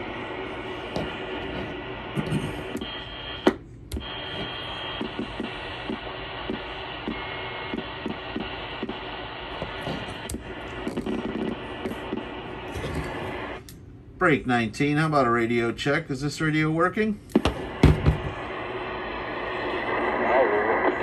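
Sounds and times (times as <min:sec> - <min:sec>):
radio static hiss: 0:00.0 - 0:13.6, 0:16.4 - 0:21.0.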